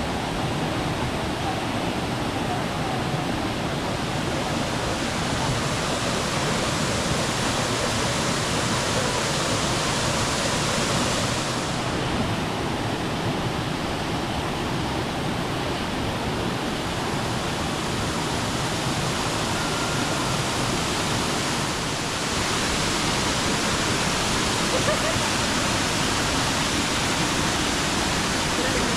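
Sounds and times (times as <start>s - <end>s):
waterfall roaring: 0.0s - 28.9s.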